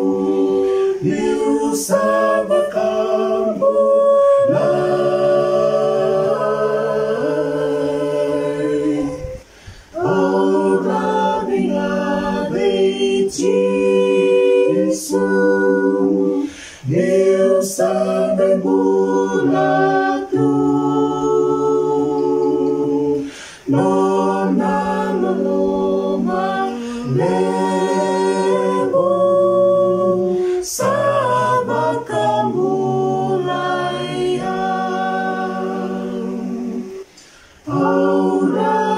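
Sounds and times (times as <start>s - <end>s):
group singing unaccompanied in harmony: 0.0s - 38.9s.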